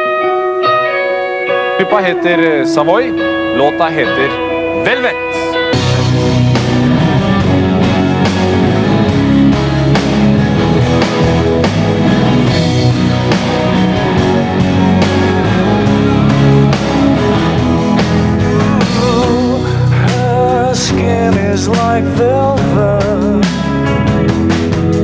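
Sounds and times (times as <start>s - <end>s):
rock song with electric guitars: 0.0s - 25.0s.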